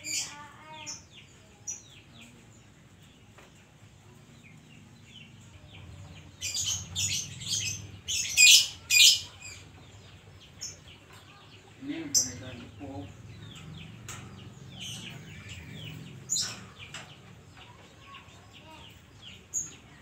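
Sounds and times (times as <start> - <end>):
bird chirping and singing: 0.0 - 20.0.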